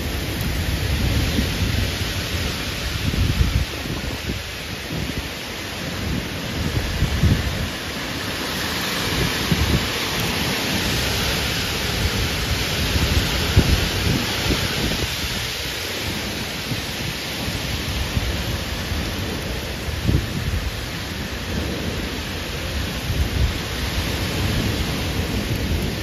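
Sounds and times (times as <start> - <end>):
torrential rain pouring: 0.0 - 26.0
wind gusting on microphone: 0.0 - 26.0.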